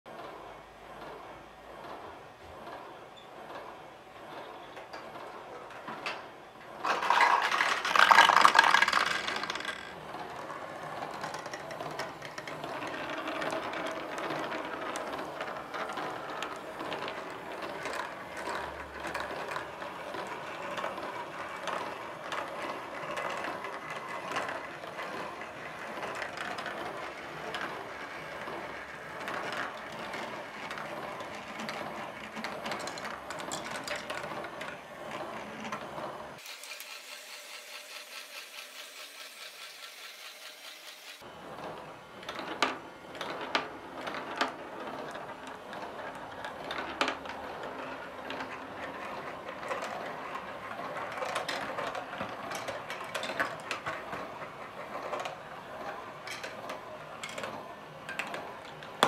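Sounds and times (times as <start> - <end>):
marbles rolling through plastic run: 5.0 - 59.0.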